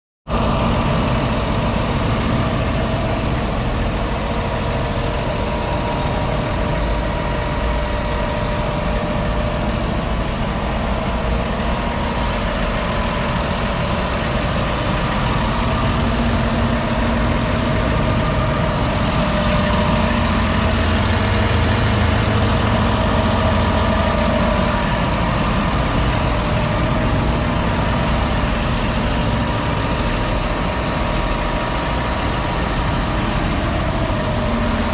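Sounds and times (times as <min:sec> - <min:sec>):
tractor diesel engine idling: 0:00.3 - 0:34.9.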